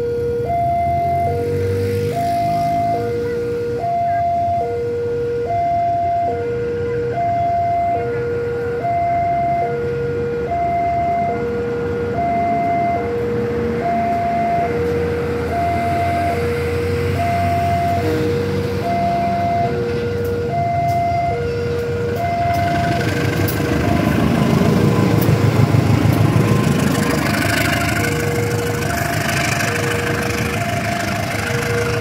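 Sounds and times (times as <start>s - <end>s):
locomotive rumble: 0.0s - 32.0s
two-tone crossing alarm: 0.0s - 32.0s.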